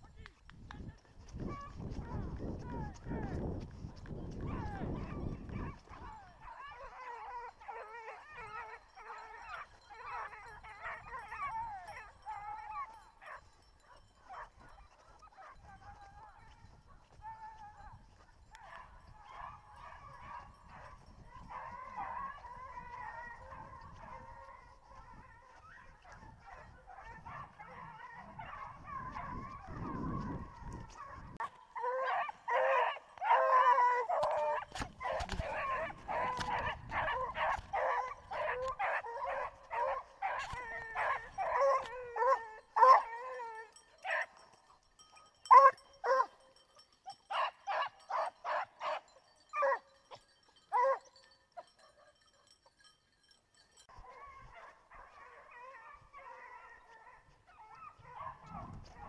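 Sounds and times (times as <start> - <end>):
hounds baying: 4.4 - 59.0.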